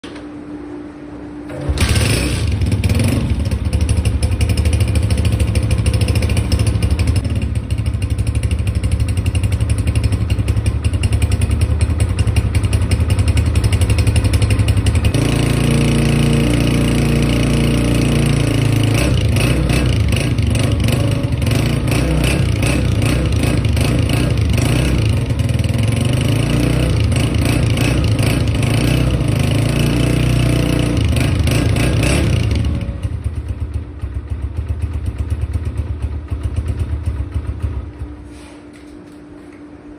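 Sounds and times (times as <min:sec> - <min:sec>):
motorcycle engine starting and running: 0:00.0 - 0:39.9.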